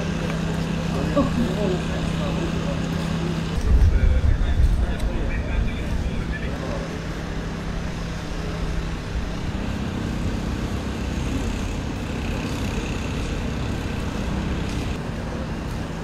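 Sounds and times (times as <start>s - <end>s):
low engine hum: 0.0s - 16.0s
outdoor street noise: 0.0s - 16.0s.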